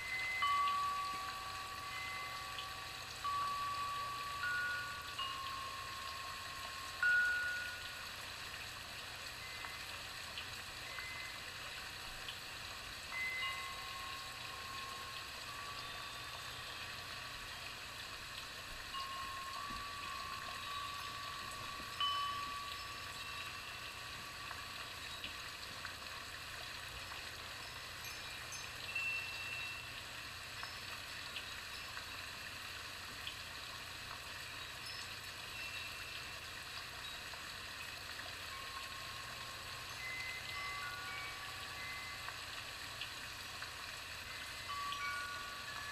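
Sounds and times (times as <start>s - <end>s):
steady hiss: 0.0s - 45.9s.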